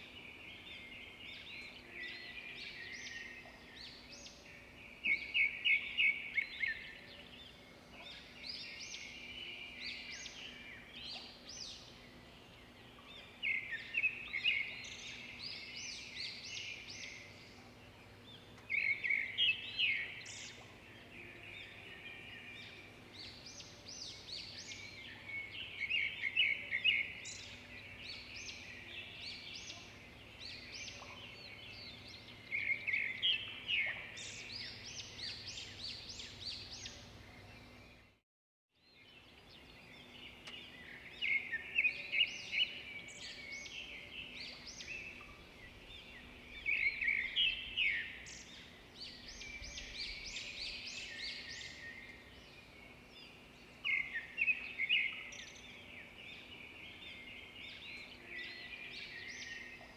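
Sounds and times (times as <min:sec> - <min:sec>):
small birds chirping and trilling: 0:00.0 - 0:38.2, 0:38.8 - 0:59.9.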